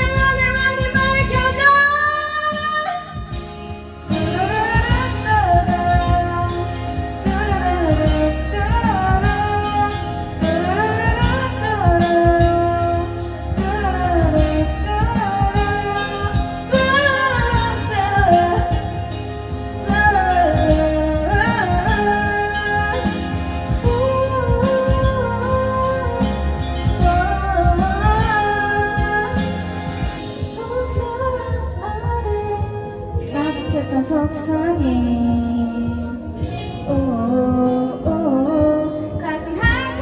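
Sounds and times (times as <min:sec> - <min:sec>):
pop ballad backing track: 0:00.0 - 0:40.0
person singing: 0:04.1 - 0:40.0.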